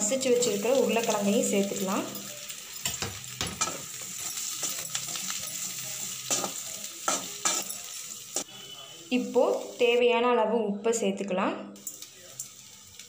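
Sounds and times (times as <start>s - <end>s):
frying sizzle: 0.0s - 10.2s, 11.8s - 13.0s.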